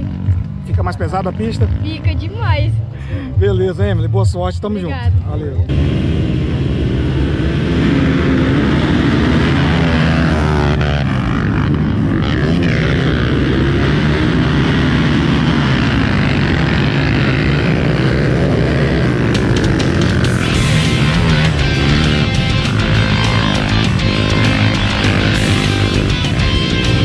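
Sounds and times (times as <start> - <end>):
dirt bike engines buzzing: 0.0 - 27.0
engines revving: 0.0 - 27.0.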